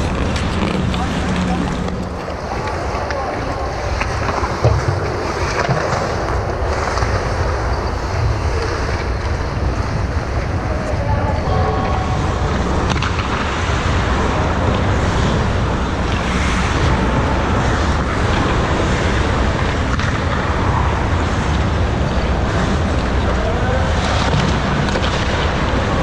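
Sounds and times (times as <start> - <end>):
ice rink rushing noise: 0.0 - 26.0.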